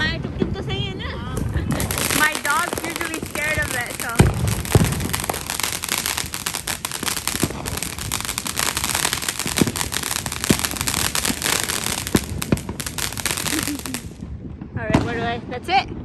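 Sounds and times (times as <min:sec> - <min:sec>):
fireworks crackling: 0:01.3 - 0:14.4
firework bangs: 0:01.4 - 0:15.3.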